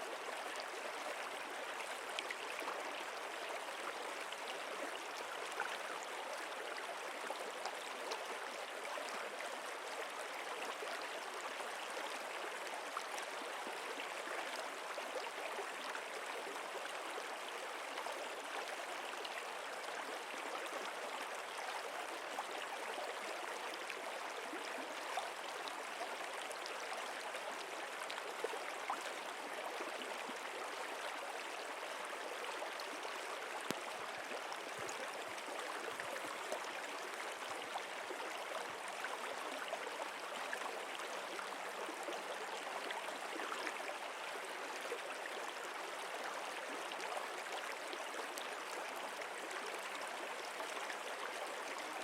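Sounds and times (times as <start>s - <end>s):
stream flowing: 0.0s - 52.0s.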